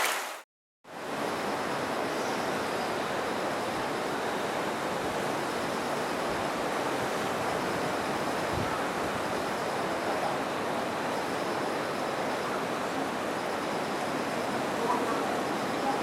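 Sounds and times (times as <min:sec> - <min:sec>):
river rushing: 0:01.0 - 0:16.0.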